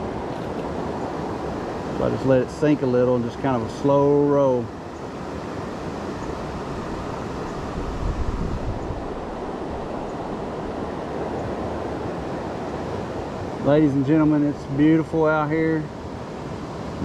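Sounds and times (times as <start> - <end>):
creek current rushing: 0.0 - 17.0.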